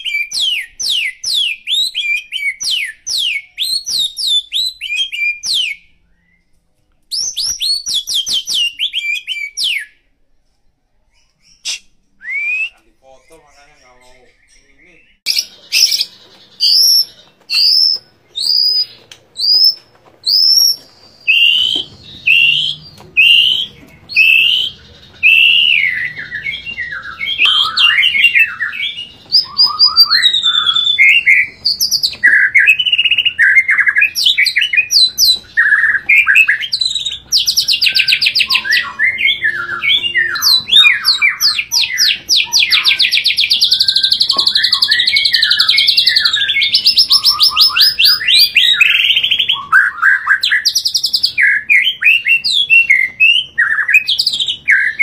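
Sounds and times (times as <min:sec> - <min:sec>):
songbird whistling and trilling: 0:00.0 - 0:06.5, 0:07.1 - 0:10.0, 0:11.1 - 0:13.4, 0:14.1 - 0:55.0.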